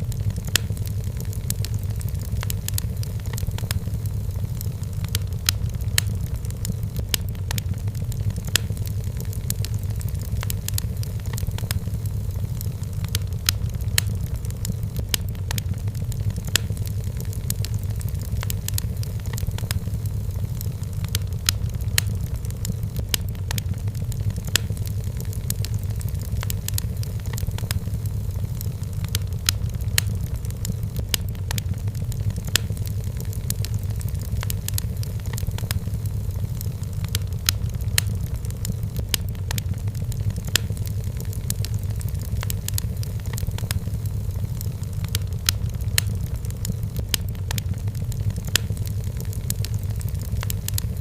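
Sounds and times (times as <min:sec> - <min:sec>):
firewood crackling and popping: 0:00.0 - 0:51.0
low rumble of fire: 0:00.0 - 0:51.0.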